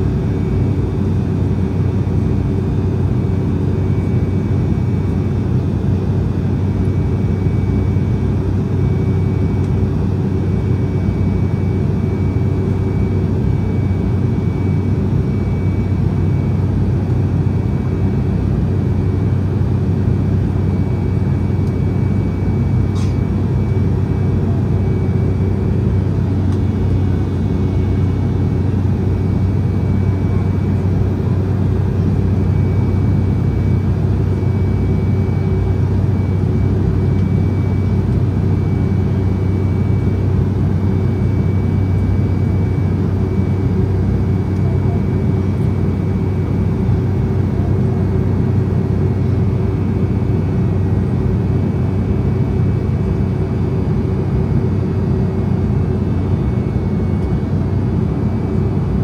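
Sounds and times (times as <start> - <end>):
airliner cabin noise: 0.0 - 53.9, 54.6 - 59.0
faint high whine: 0.0 - 59.0.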